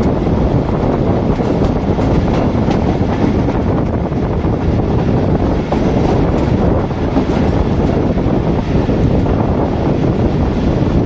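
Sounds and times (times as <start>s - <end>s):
train coach rumbling on track: 0.0s - 11.0s
wind buffeting microphone: 0.0s - 11.0s.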